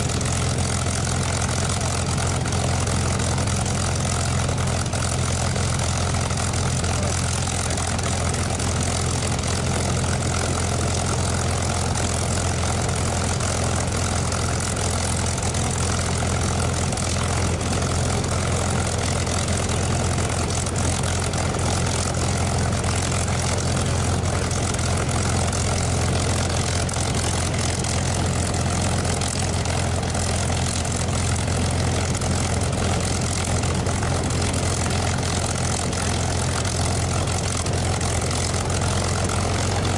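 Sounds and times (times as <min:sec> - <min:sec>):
propeller plane engine idling: 0:00.0 - 0:39.9.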